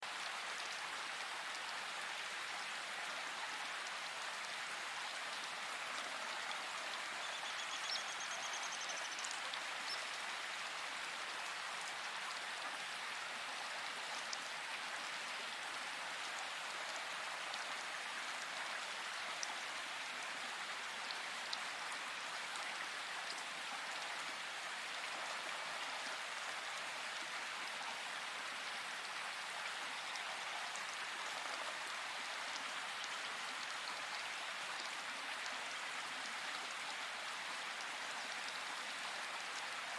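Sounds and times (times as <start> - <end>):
rain hissing in forest: 0.0 - 39.9.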